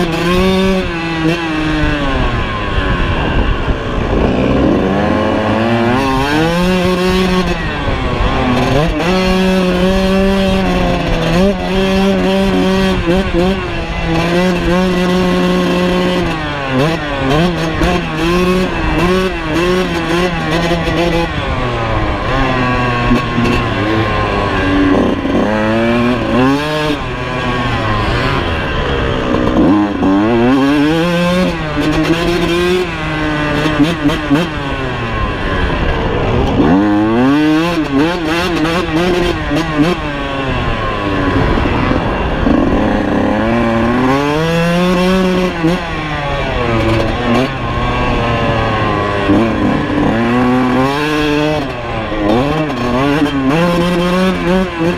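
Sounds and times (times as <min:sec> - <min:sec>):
two-stroke motorcycle engine revving: 0:00.0 - 0:54.9.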